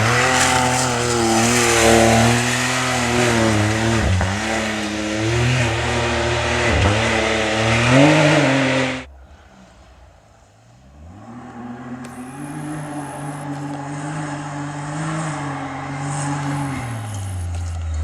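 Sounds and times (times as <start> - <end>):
car engine accelerating: 0.0 - 18.0
distant car engine: 0.0 - 18.0.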